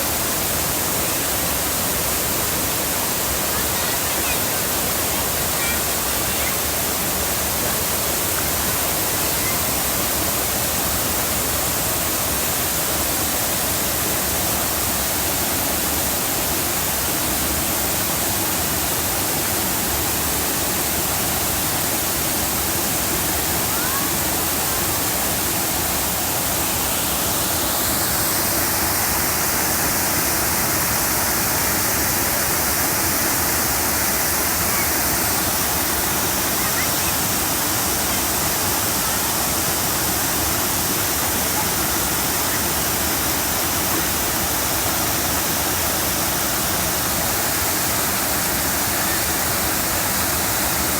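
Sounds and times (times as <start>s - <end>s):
waterfall roaring: 0.0s - 50.9s.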